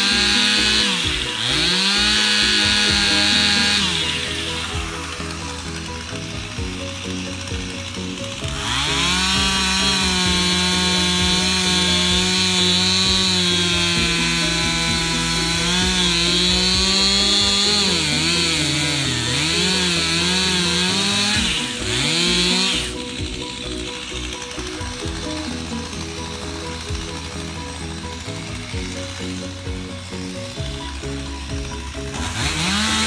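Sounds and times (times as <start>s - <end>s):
chainsaw cutting wood: 0.0s - 33.0s.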